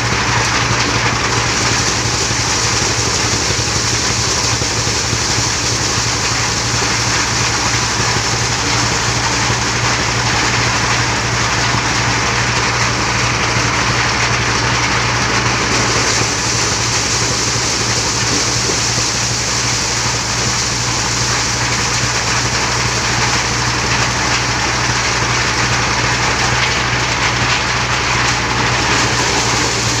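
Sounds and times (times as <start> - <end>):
corn sheller rattling: 0.0 - 30.0
engine hum: 0.0 - 30.0.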